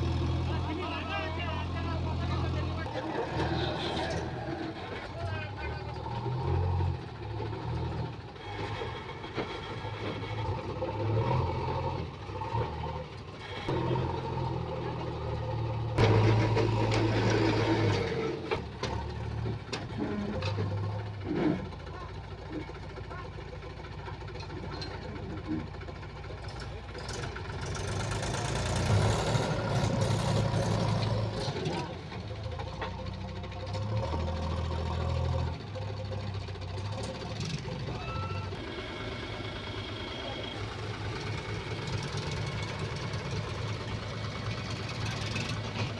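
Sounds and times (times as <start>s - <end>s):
backhoe diesel engine under load: 0.0s - 45.9s.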